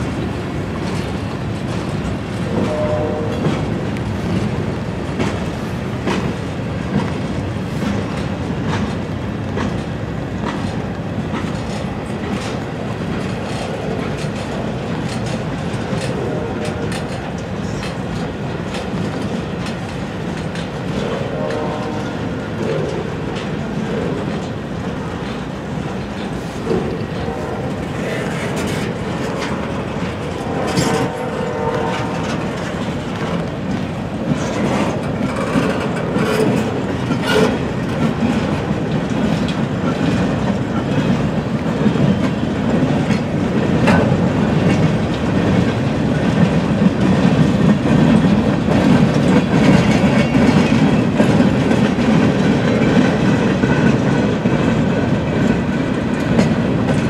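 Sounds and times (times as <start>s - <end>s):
freight cars rolling on rails: 0.0s - 57.0s
wheel clicks over rail joints: 0.0s - 57.0s.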